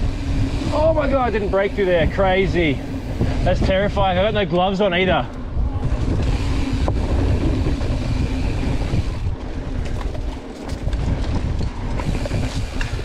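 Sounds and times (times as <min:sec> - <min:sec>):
bike clicks and clatters: 0:00.0 - 0:13.0
bike tyres rolling on dirt: 0:00.0 - 0:13.0
wind noise on microphone: 0:00.0 - 0:13.0.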